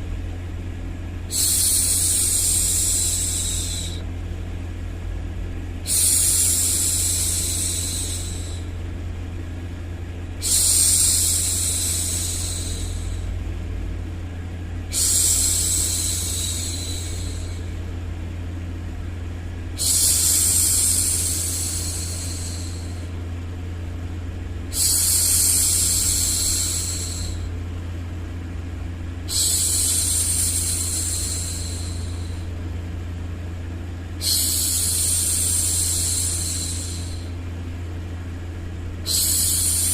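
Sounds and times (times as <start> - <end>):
low rumbling noise: 0.0 - 39.9.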